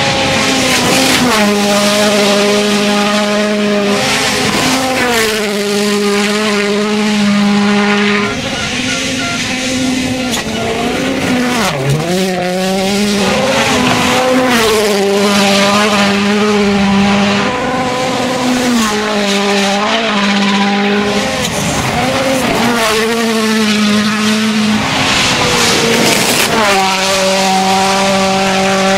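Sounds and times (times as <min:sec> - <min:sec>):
rally car engine at high revs: 0:00.0 - 0:28.9.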